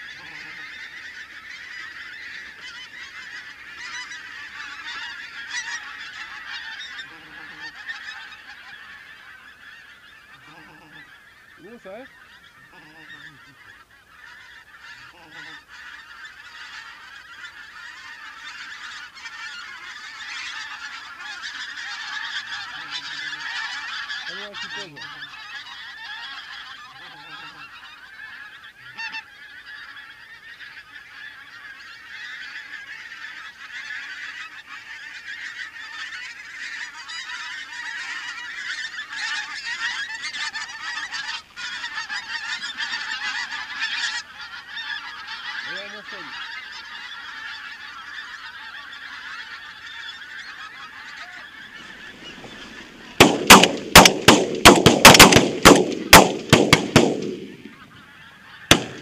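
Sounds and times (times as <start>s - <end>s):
geese honking in flight: 0.0s - 59.0s.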